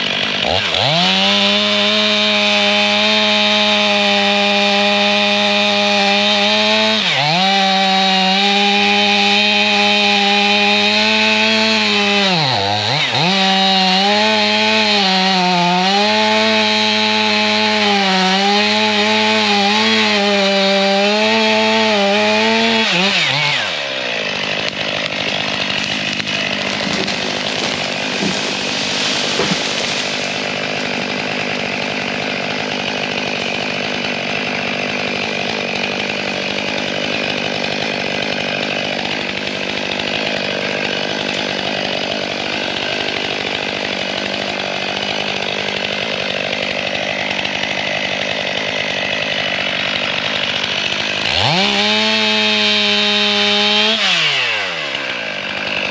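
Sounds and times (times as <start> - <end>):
chainsaw engine idling: 0.0 - 55.9.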